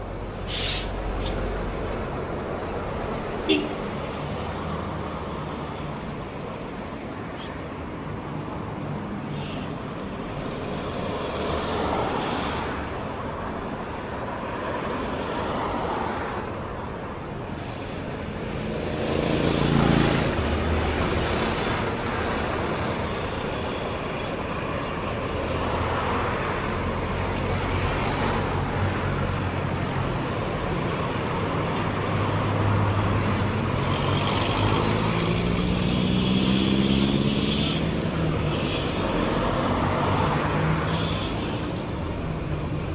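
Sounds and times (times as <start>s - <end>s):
vehicles passing: 0.0s - 42.9s.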